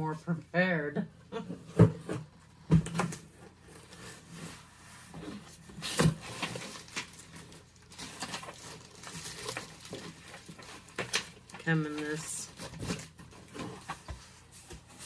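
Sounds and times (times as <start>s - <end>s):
cardboard box rustling and crinkling: 1.8s - 15.0s.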